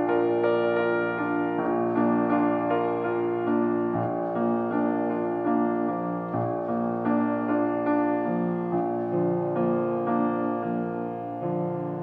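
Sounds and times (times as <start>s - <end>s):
grand piano solo piece: 0.0s - 12.0s.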